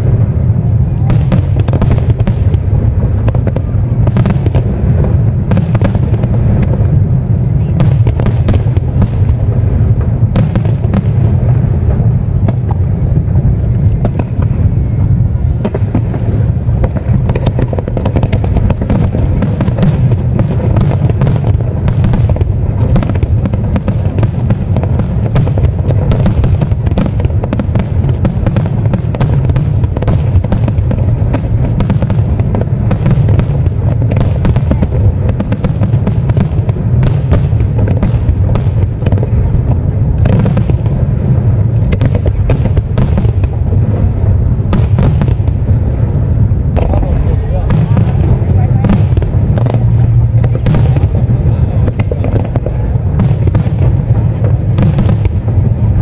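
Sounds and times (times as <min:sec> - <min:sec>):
fireworks rumble of bangs: 0:00.0 - 0:56.0
sharp firework cracks: 0:00.0 - 0:56.0.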